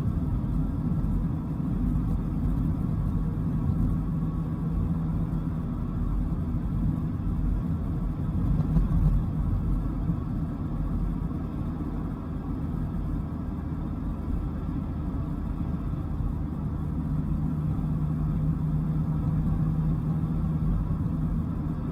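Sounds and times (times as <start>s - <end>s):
car engine droning: 0.0s - 21.9s
road rumble: 0.0s - 21.9s.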